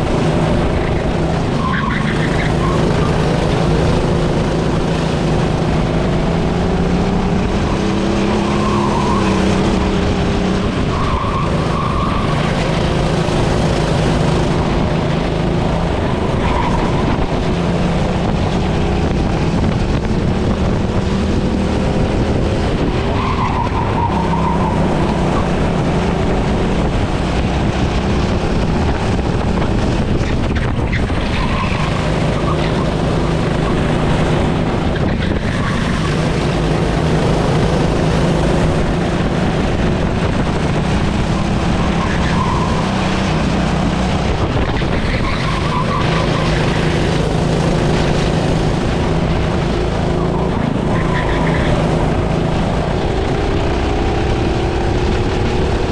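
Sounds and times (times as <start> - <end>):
racing engine revving: 0.0 - 55.9
steady rush of noise: 0.0 - 55.9.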